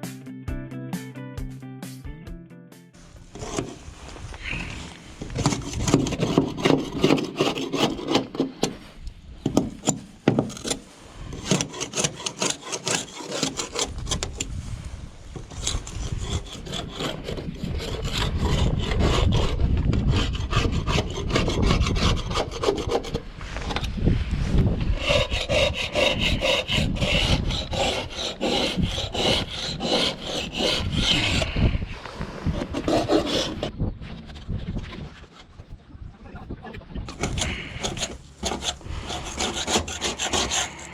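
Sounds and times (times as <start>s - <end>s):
scraper rasping on boat hull: 3.3s - 23.9s, 24.9s - 33.8s, 37.1s - 40.9s.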